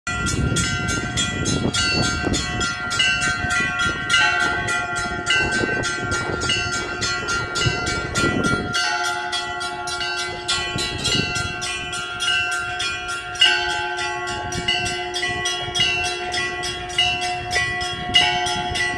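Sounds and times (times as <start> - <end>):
large bells ringing: 0.1 - 18.9
small bells struck rapidly: 0.1 - 18.9.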